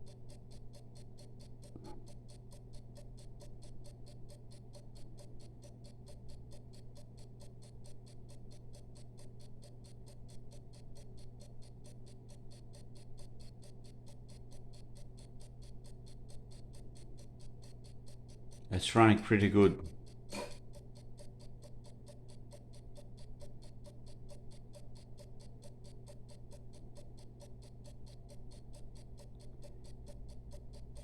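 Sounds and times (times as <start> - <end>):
mechanical clock ticking: 0.0 - 31.0
steady low hum: 0.0 - 31.0.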